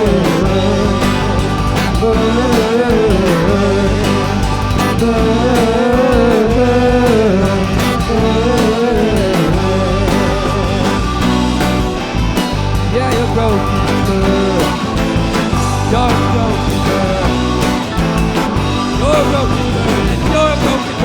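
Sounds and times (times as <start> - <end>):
live rock band playing: 0.0 - 21.0
wavering lead melody: 0.0 - 21.0.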